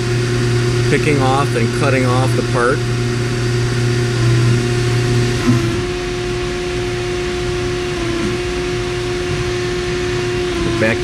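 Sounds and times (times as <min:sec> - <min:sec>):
lathe machine hum: 0:00.0 - 0:11.0.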